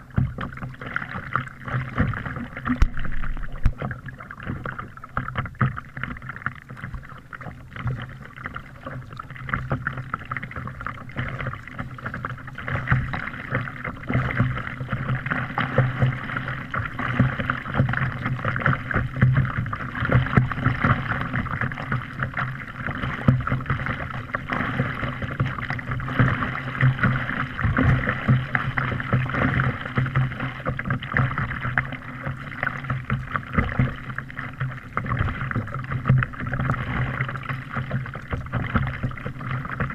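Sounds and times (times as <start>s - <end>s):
water lapping against kayak hull: 0.0s - 39.9s.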